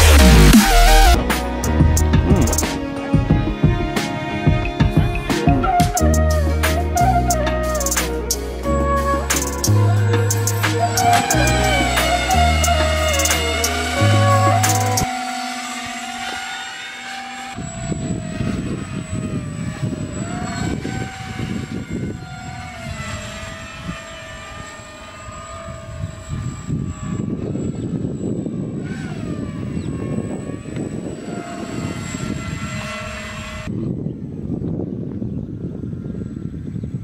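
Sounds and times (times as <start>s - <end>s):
model airplane motor buzzing: 0.0s - 37.0s.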